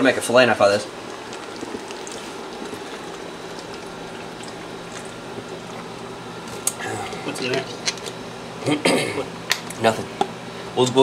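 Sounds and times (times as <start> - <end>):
steady workshop hiss: 0.0 - 11.0.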